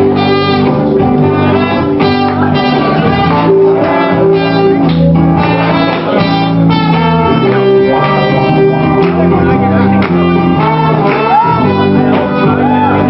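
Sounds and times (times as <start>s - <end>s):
guitar: 0.0s - 13.0s
live band playing: 0.0s - 13.0s.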